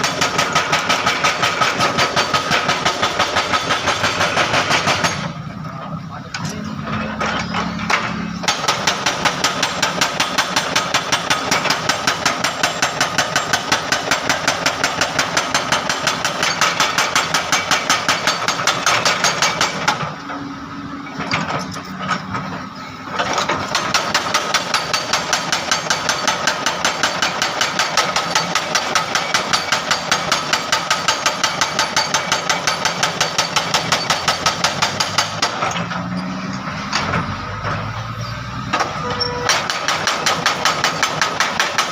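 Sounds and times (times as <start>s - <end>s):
hydraulic breaker hammering asphalt: 0.0s - 5.5s, 6.4s - 41.9s
diesel engine running: 0.1s - 17.2s, 18.1s - 41.8s.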